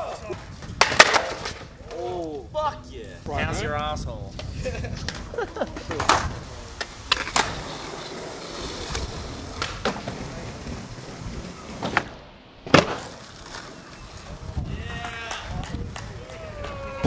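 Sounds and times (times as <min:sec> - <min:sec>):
skateboard wheels rolling on pavement: 0:00.0 - 0:17.0
skateboard clacking on ground: 0:00.3 - 0:02.1, 0:04.3 - 0:17.0.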